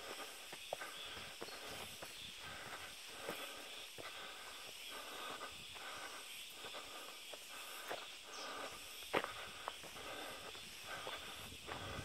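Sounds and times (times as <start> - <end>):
footsteps on dirt path: 0.0 - 12.0.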